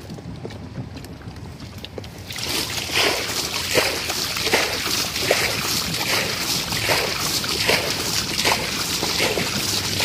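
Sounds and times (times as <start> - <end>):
water splashing and sloshing: 1.7 - 10.0.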